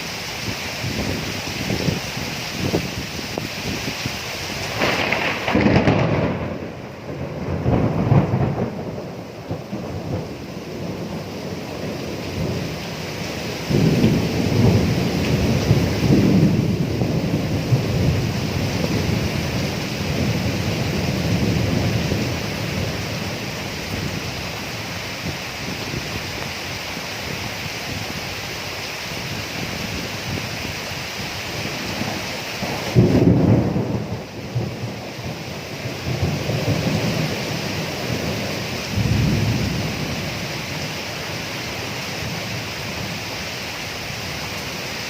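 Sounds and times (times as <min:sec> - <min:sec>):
steady rain: 0:00.0 - 0:45.0
thunder rumbling: 0:00.0 - 0:45.0.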